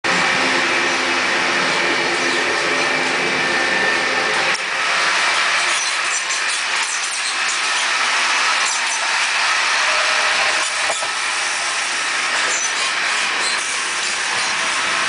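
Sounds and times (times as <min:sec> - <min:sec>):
train running noise: 0:00.1 - 0:15.0.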